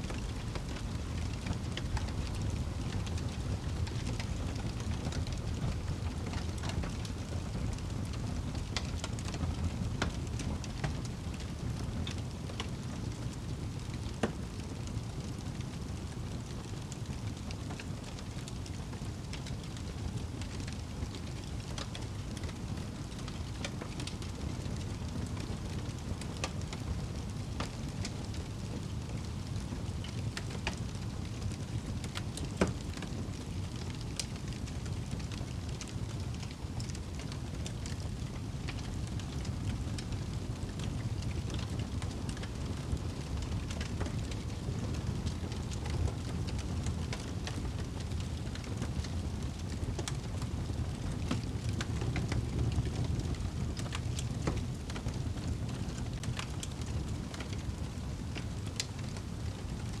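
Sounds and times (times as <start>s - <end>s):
fire rumbling: 0.0s - 60.0s
fire pops and snaps: 0.1s - 59.9s.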